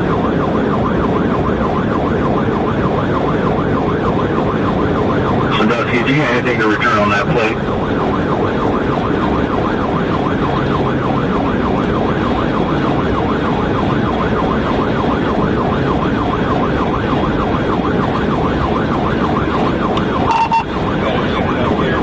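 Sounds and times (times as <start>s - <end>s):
car engine: 0.0s - 22.0s
police siren yelping: 0.0s - 22.0s
road noise: 0.0s - 22.0s.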